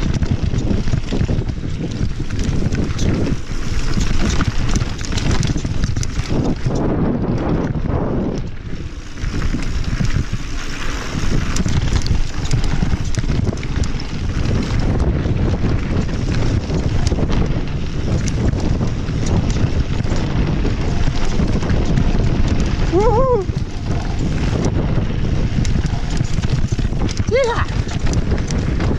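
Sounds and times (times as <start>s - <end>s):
bike rattling clicks and knocks: 0.0s - 28.9s
tyre rumble over dirt and stones: 0.0s - 28.9s
wind buffeting microphone: 0.0s - 28.9s.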